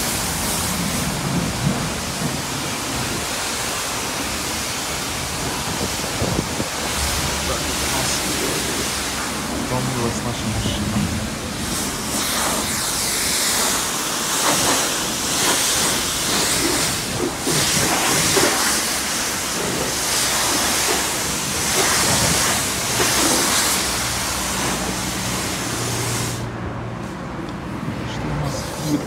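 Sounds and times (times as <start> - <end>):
pressure washer spraying car: 0.0 - 26.5.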